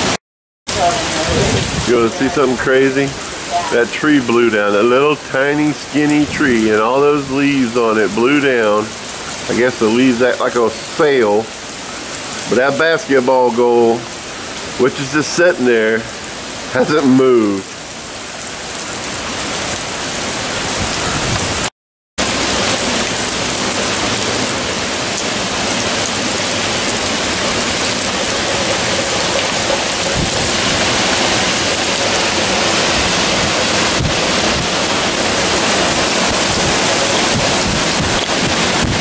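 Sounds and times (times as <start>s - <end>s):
heavy wind-driven rain: 0.0s - 39.0s.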